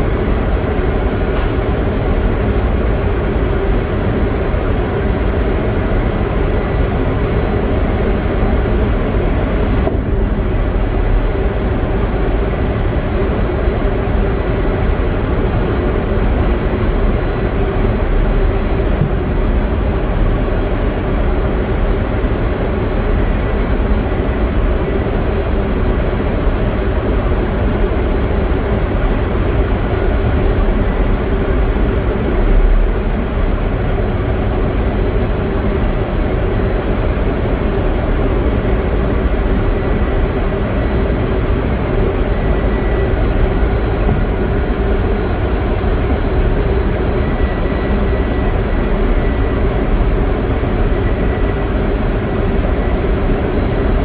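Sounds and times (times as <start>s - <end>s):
generator engine drone: 0.0s - 54.0s.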